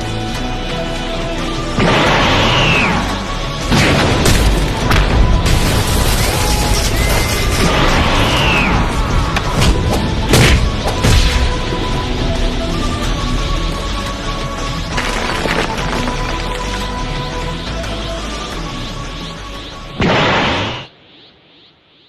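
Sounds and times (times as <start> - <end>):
background music: 0.0 - 20.9.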